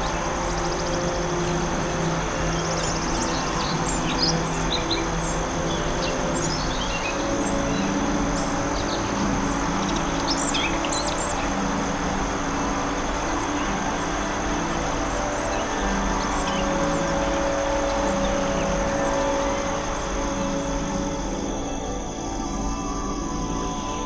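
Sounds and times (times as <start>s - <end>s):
small birds chirping: 0.0s - 23.0s
high insect-like whine: 0.0s - 24.0s
steady rushing background: 0.0s - 24.0s.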